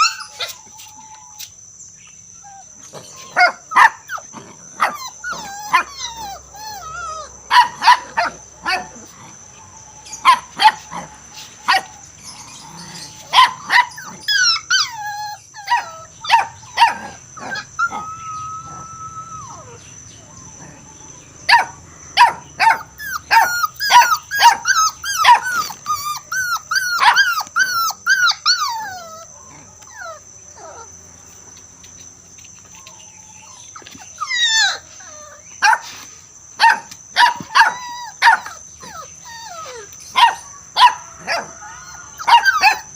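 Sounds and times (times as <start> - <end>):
dog barking and yelping: 0.0 - 1.4, 2.1 - 19.8, 21.5 - 31.0, 32.7 - 42.9.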